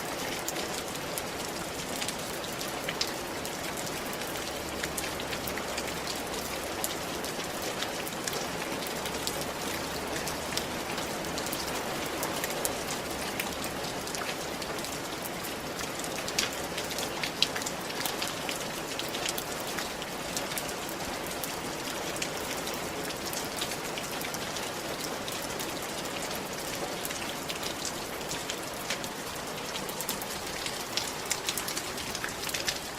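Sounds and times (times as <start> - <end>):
rain falling: 0.0 - 32.9
raindrops ticking on surfaces: 0.0 - 32.9.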